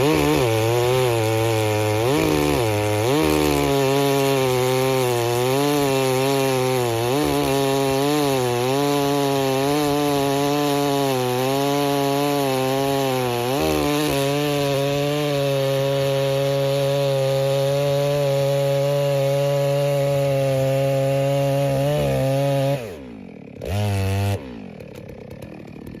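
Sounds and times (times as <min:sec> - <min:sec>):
chainsaw running at high revs: 0:00.0 - 0:26.0.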